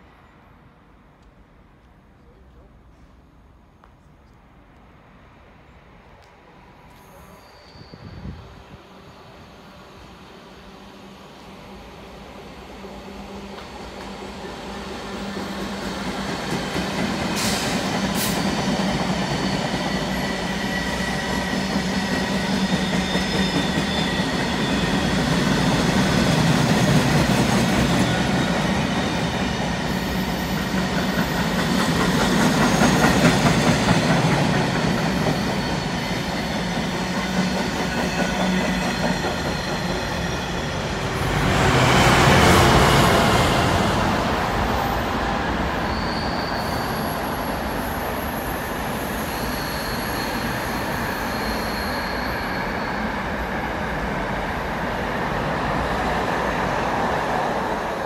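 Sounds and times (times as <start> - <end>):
freight train rumbling: 5.6 - 58.0.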